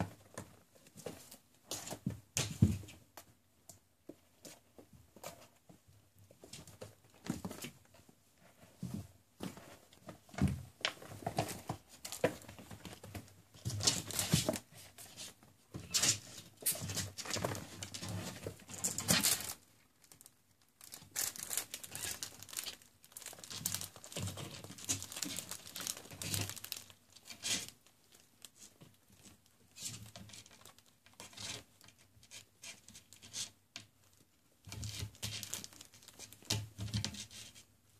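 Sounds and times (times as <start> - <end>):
kittens rustling and scratching fabric: 0.0 - 37.9.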